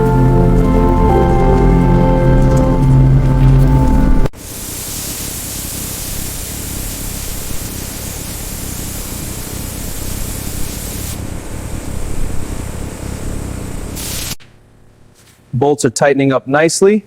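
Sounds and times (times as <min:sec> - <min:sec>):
steady hissing noise: 0:00.0 - 0:16.8.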